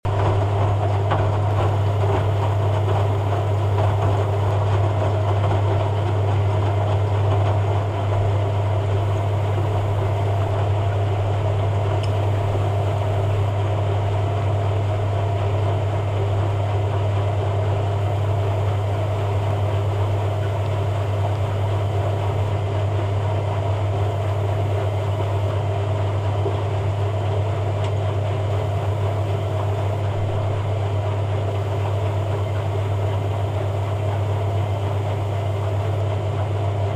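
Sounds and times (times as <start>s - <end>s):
washing machine spin cycle: 0.0s - 36.9s.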